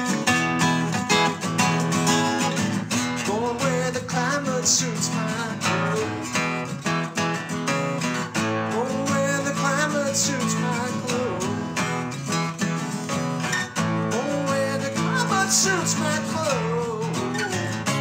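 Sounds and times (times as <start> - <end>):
acoustic guitar strumming chords: 0.0 - 18.0
wavering guitar melody: 0.0 - 18.0.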